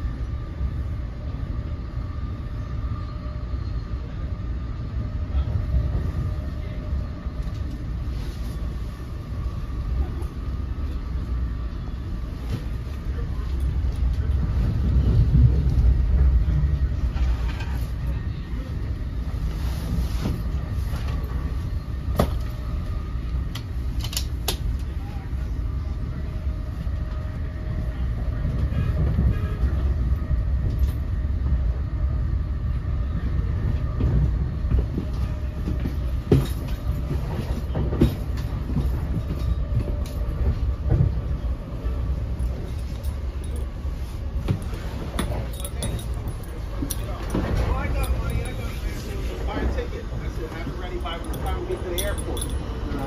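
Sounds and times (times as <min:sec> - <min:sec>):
train rumbling in motion: 0:00.0 - 0:53.0.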